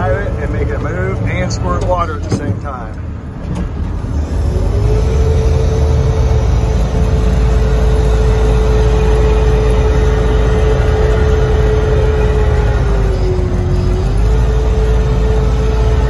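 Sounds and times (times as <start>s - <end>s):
fire truck engine running hard: 0.0s - 16.0s
steady pump whine: 0.0s - 16.0s.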